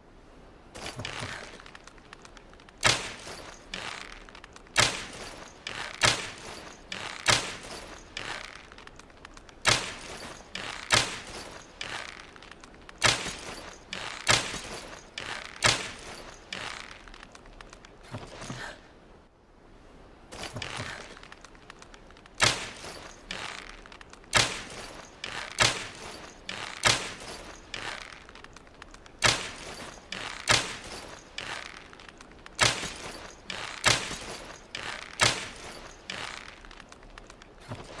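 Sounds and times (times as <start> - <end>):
soft rustling: 0.0 - 38.0.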